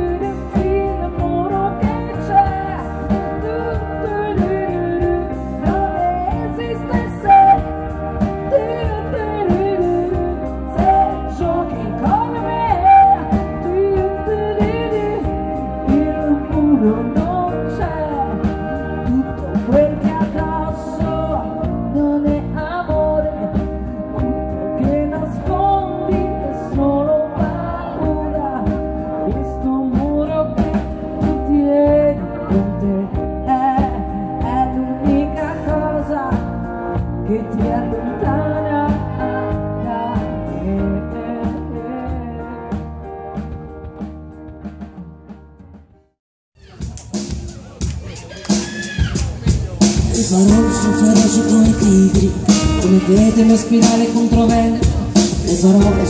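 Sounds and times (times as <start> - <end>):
woman singing: 0.0 - 43.1, 50.1 - 56.0
electric guitar: 0.0 - 45.8, 48.4 - 56.0
drum kit: 0.0 - 56.0
keyboards: 0.0 - 56.0.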